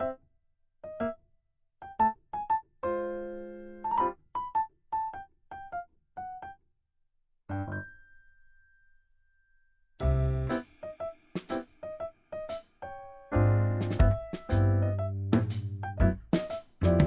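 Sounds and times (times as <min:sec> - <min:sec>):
simple piano melody: 0:00.0 - 0:00.2, 0:00.8 - 0:01.2, 0:01.8 - 0:06.6, 0:07.5 - 0:08.9, 0:10.0 - 0:17.0.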